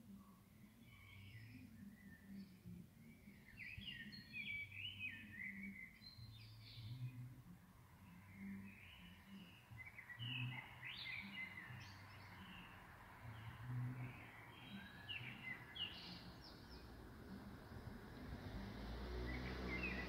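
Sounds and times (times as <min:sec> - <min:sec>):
faint low hum: 0:00.0 - 0:20.0
birds chirping: 0:00.5 - 0:20.0.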